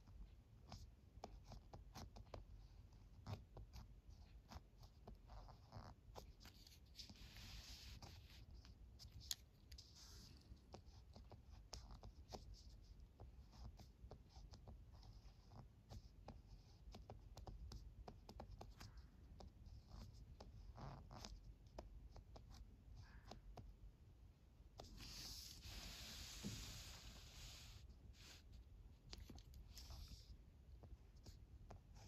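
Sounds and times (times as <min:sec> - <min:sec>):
pen scratching on paper: 0:00.6 - 0:23.7, 0:24.8 - 0:32.0.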